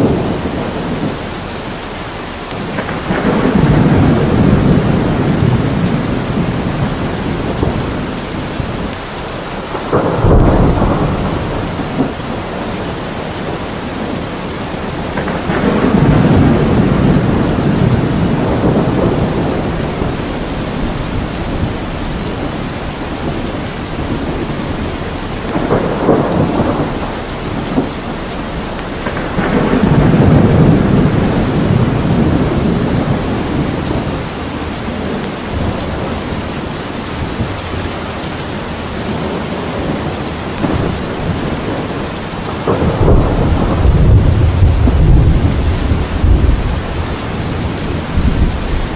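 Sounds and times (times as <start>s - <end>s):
heavy rain falling: 0.0s - 48.9s
thunder rumbling: 0.0s - 48.9s.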